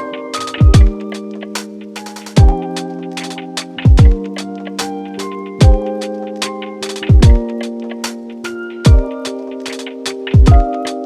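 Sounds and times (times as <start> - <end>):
lo-fi electronic music: 0.0 - 11.0.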